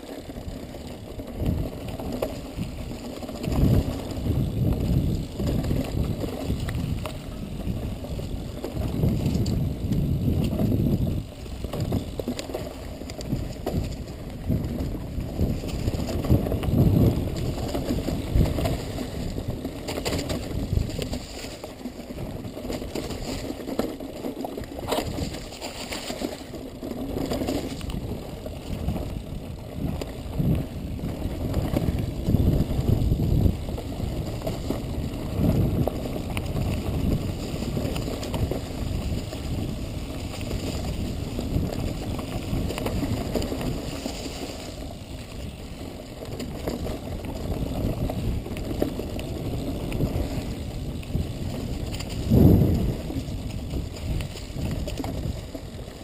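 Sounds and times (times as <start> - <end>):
wind buffeting microphone: 0.0 - 23.5, 27.2 - 56.0
bike knocking and rattling: 0.0 - 56.0.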